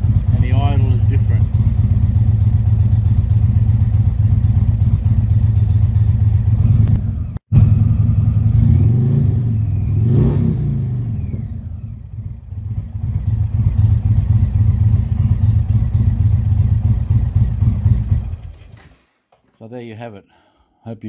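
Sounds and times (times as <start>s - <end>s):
motorcycle engine idling and revving: 0.0s - 19.2s.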